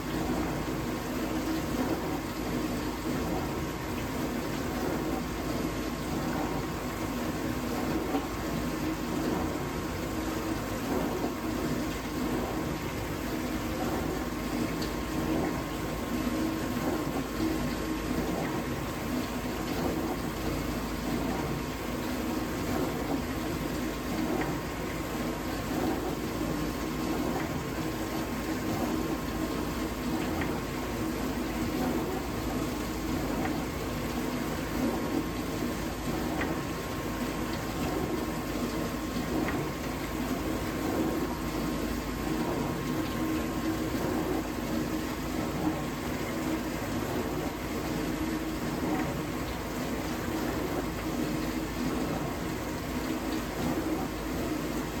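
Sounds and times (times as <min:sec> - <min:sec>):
dishwasher pump hum: 0:00.0 - 0:55.0
water washing inside tub: 0:00.0 - 0:55.0.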